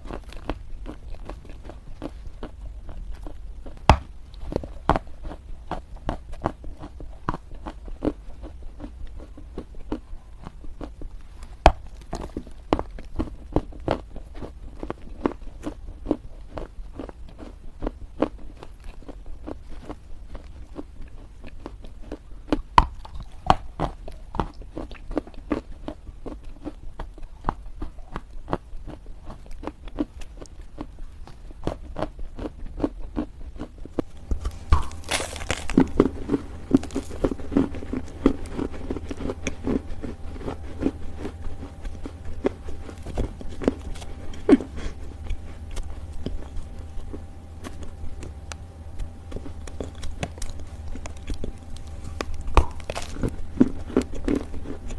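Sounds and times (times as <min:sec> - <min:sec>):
earth being chewed crunching: 0:00.0 - 0:54.9
faint steady hum: 0:00.0 - 0:54.9.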